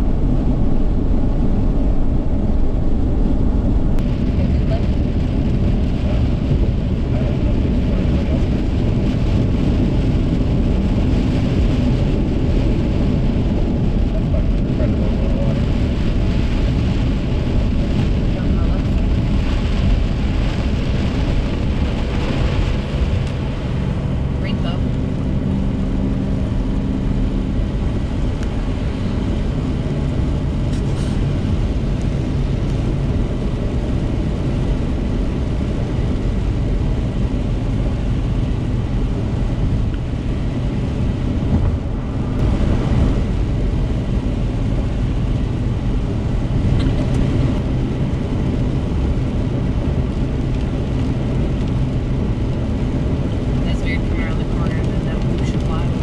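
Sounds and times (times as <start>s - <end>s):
car cabin road noise on wet pavement: 0.0s - 56.0s.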